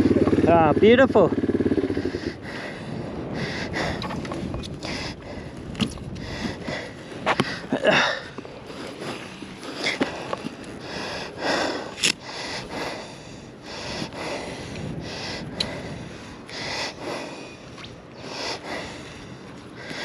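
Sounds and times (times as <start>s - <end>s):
person breathing hard: 1.8s - 20.0s.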